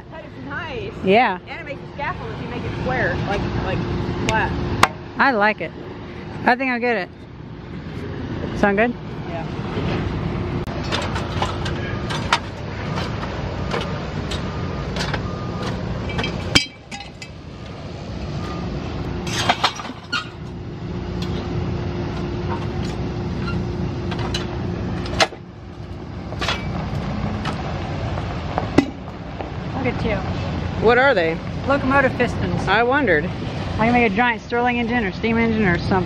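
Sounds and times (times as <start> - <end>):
engine running with low rumble: 0.0 - 36.0.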